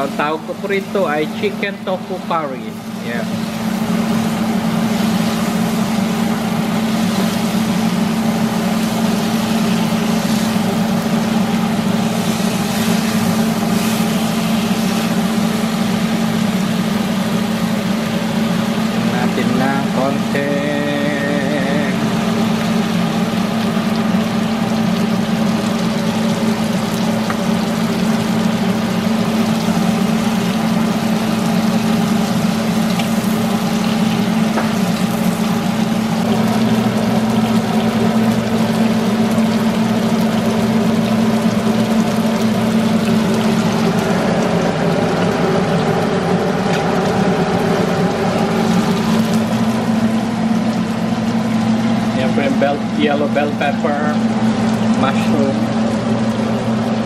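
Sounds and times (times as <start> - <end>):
chicken wings sizzling in a wok: 0.0 - 57.0
exhaust fan motor hum: 0.0 - 57.0.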